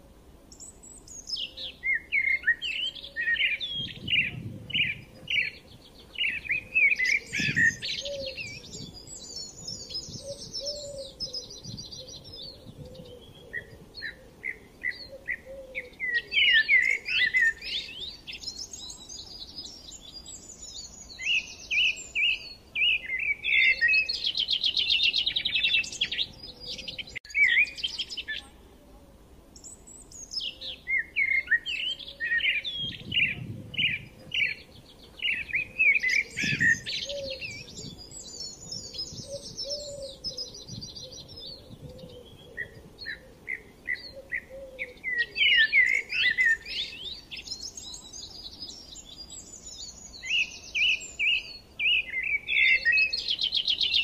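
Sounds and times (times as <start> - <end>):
wild birds singing: 0.0 - 54.0.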